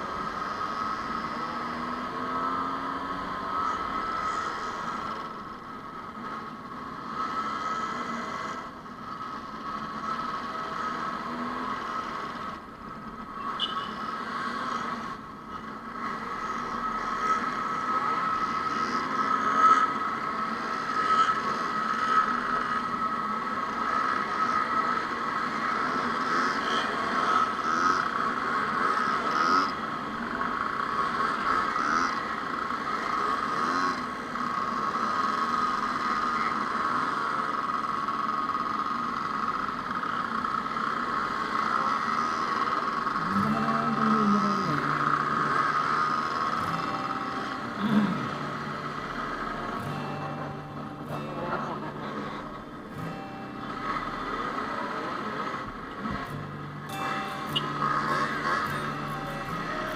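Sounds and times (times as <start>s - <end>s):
two-stroke engines running: 0.0s - 59.9s.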